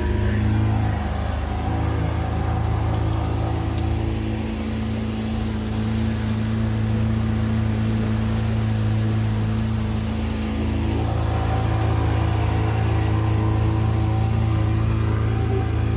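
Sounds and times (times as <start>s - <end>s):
boat engine humming: 0.0s - 15.9s.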